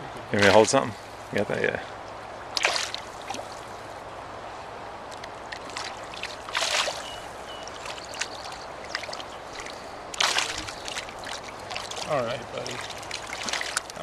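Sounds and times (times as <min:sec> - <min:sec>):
water splashes: 0:00.0 - 0:01.4, 0:02.3 - 0:04.0, 0:05.0 - 0:14.0
river water flowing: 0:00.0 - 0:14.0.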